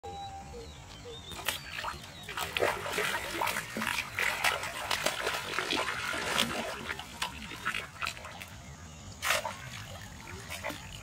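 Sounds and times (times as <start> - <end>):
fish splashing in water: 1.4 - 11.0.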